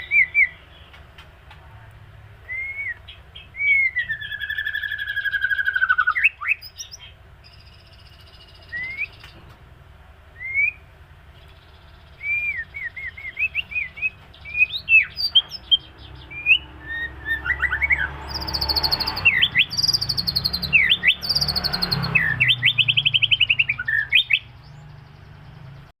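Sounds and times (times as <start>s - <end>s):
songbird whistling and trilling: 0.0s - 1.0s, 2.4s - 9.4s, 10.3s - 25.4s.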